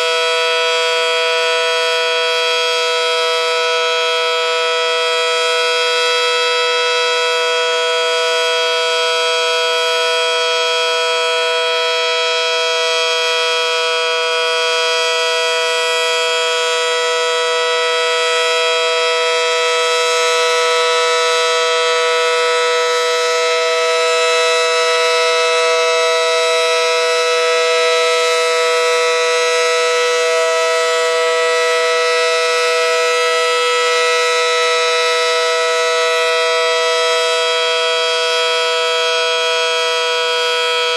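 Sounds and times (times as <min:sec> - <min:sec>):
warning siren steady chord: 0:00.0 - 0:40.9.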